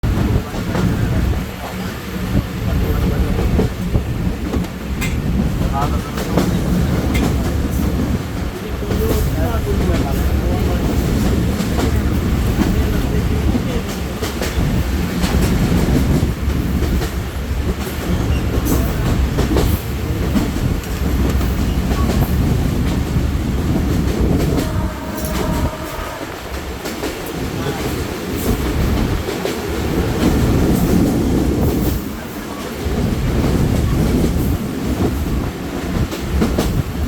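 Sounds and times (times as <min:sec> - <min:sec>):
train rumbling past: 0:00.0 - 0:37.0.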